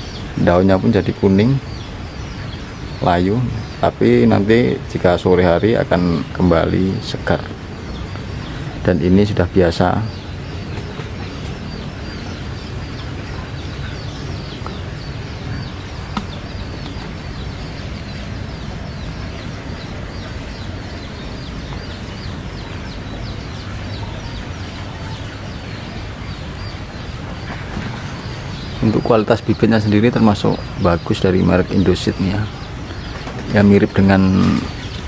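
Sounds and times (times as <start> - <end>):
high bird chirps: 0.0 - 35.0
steady low rumble: 0.0 - 35.0.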